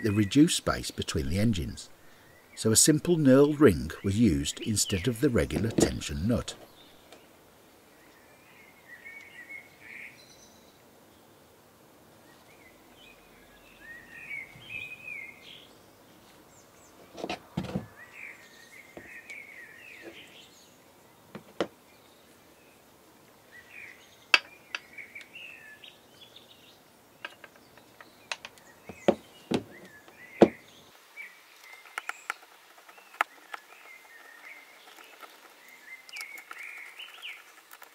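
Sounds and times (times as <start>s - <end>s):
birds chirping: 0.0s - 11.3s, 12.2s - 37.9s.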